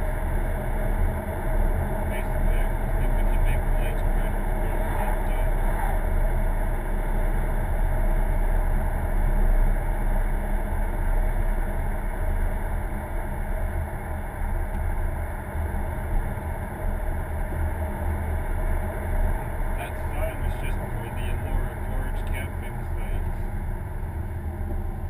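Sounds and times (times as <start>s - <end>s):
engine and road rumble inside car: 0.0s - 25.0s.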